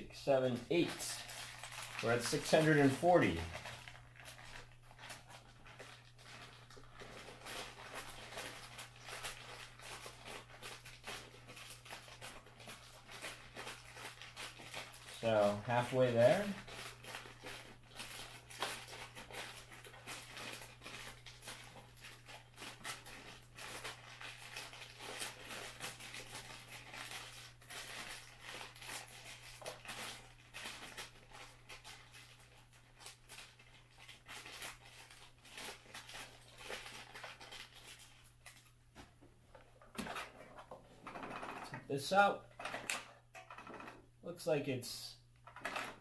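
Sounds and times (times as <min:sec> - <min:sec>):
plastic bag crinkling: 0:00.3 - 0:38.9.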